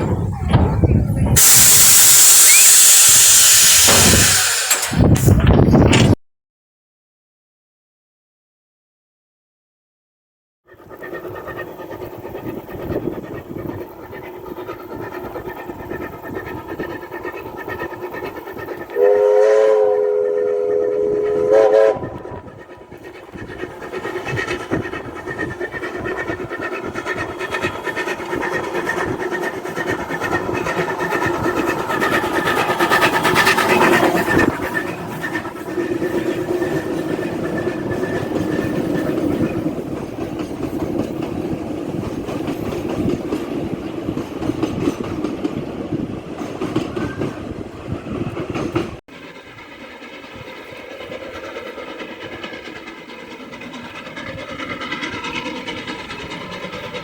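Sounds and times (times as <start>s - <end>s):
train running: 0.0s - 6.2s, 10.7s - 57.0s.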